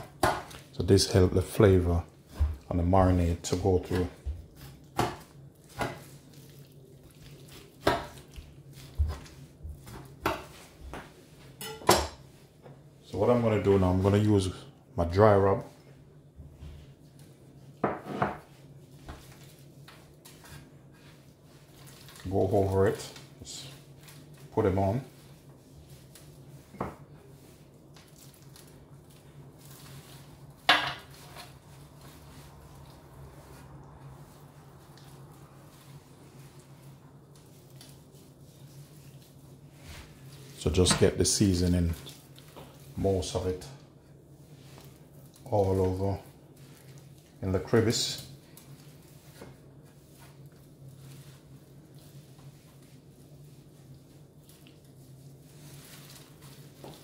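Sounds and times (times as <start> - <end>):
hands rustling on meat: 2.2 - 11.5, 18.5 - 43.6, 44.2 - 57.0.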